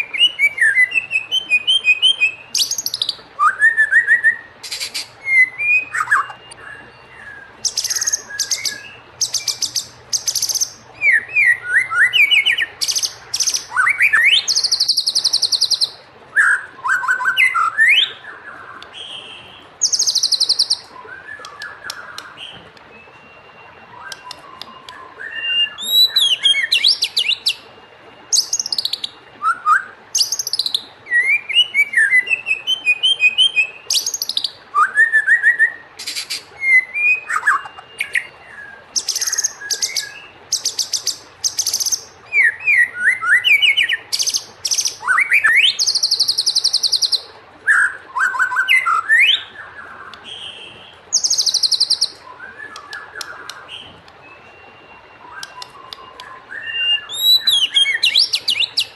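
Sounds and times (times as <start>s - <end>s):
bird singing whistled phrases: 0.0s - 58.9s.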